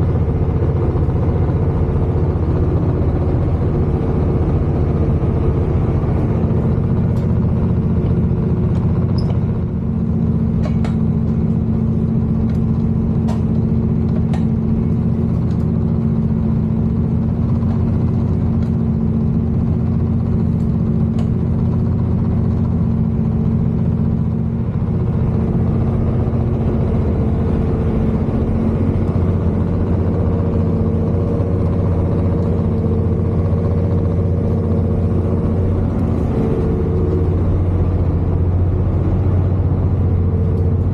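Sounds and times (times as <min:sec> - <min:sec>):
diesel engine hum: 0:00.0 - 0:40.9
train rumble from inside cabin: 0:00.0 - 0:40.9.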